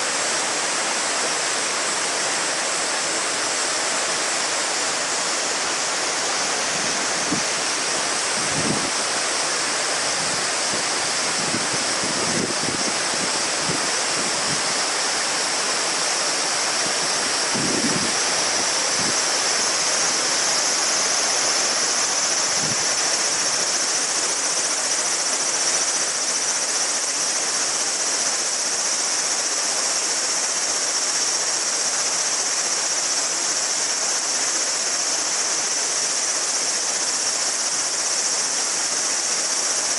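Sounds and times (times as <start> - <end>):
cicadas droning: 0.0 - 39.9
river water babbling: 0.0 - 39.9.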